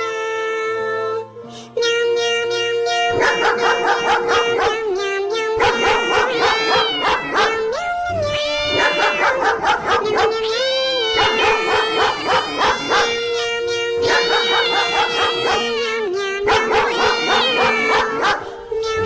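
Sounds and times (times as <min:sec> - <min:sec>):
background music: 0:00.0 - 0:19.0
dog barking and howling: 0:02.9 - 0:19.0.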